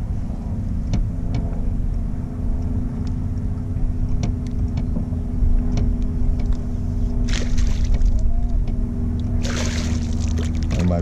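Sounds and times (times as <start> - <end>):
boat motor rumbling: 0.0 - 11.0.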